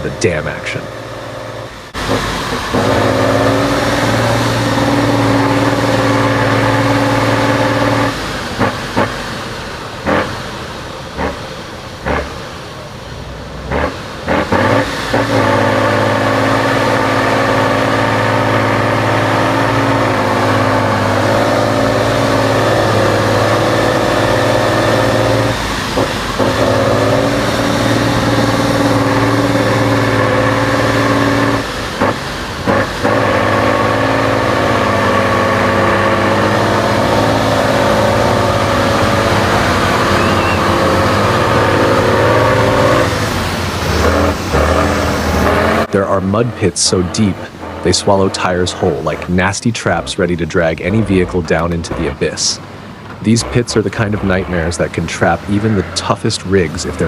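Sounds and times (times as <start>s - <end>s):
truck engine at high revs: 0.0s - 57.0s.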